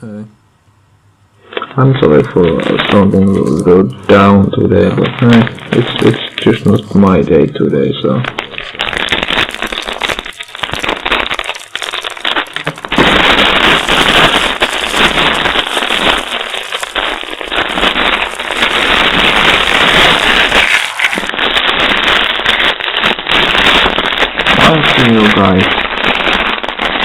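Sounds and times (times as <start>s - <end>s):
distorted crackling noise: 0.0s - 27.0s.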